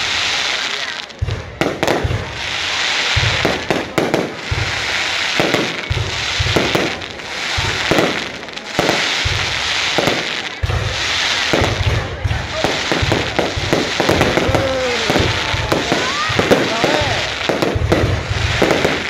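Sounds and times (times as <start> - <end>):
fireworks bursting with sharp bangs: 0.0 - 19.0
fireworks crackling hiss: 0.0 - 19.0.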